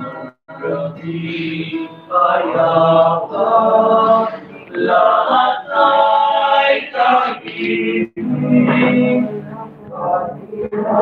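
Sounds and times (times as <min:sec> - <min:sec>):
male choir singing: 0:00.0 - 0:11.0.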